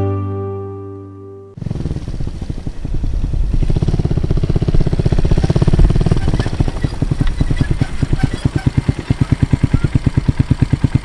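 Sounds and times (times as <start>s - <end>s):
motorcycle engine running: 1.6s - 11.0s.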